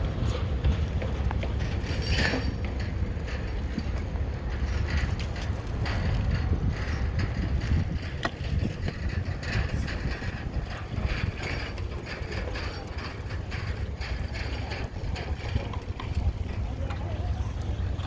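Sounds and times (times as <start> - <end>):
wind buffeting microphone: 0.0 - 18.0
bicycle clicks and rattles: 0.2 - 17.6.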